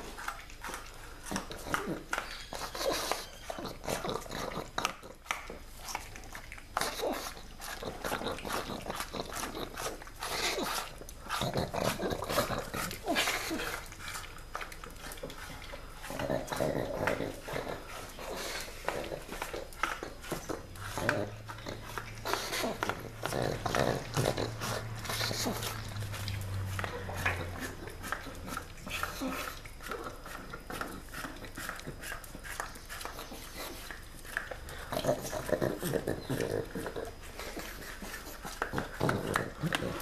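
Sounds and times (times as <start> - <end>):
plastic tub clicking and scraping on tiles: 0.0 - 40.0.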